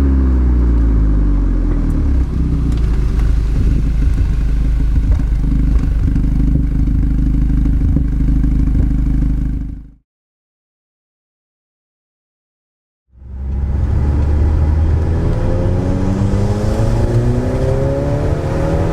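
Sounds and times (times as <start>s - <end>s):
car engine droning at low revs: 0.0s - 10.0s, 13.1s - 18.9s
exhaust crackles: 0.0s - 10.0s, 13.2s - 18.9s.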